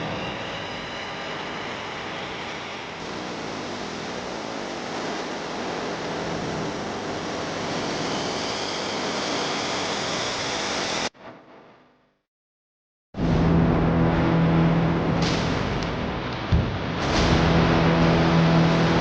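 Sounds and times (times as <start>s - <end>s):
steady rushing noise: 0.0s - 11.0s, 13.2s - 19.0s.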